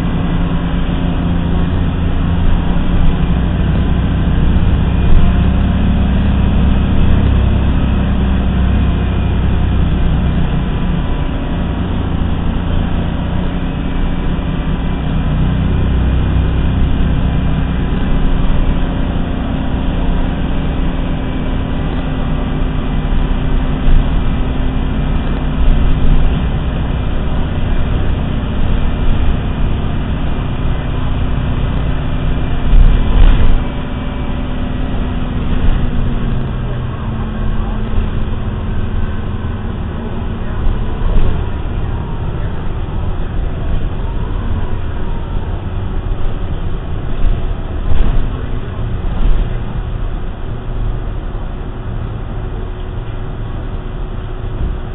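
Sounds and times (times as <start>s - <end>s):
bus diesel engine drone: 0.0s - 54.9s
bus jolts: 0.0s - 54.9s
road rumble: 0.0s - 54.9s.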